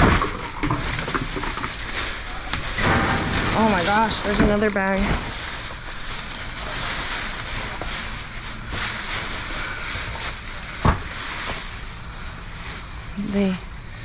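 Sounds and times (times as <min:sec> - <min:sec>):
plastic bags rustling and crinkling: 0:00.0 - 0:14.0.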